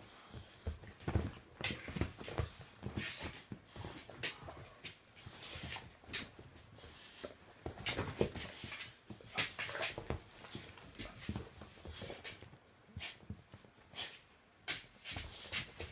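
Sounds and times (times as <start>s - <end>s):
dogs scuffling: 0.0s - 15.9s.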